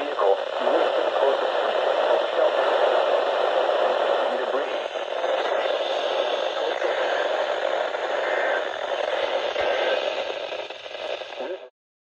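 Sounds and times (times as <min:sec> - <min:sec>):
radio static hiss: 0:00.0 - 0:11.7.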